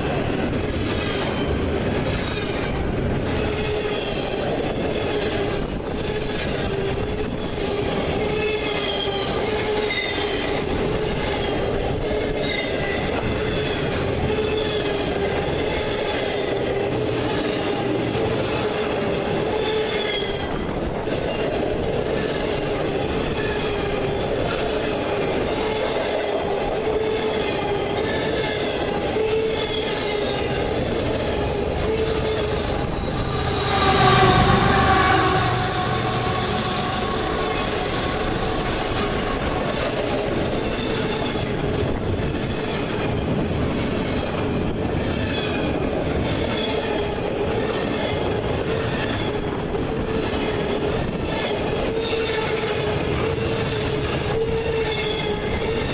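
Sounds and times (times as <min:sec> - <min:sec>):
railroad cars rolling: 0:00.0 - 0:55.9
train wheels squealing: 0:00.0 - 0:55.9.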